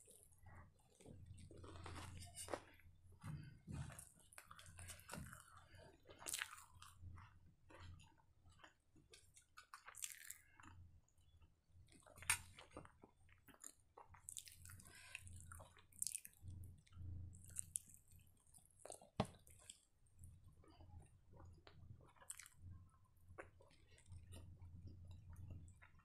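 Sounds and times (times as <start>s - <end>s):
person chewing and eating: 0.0s - 26.0s.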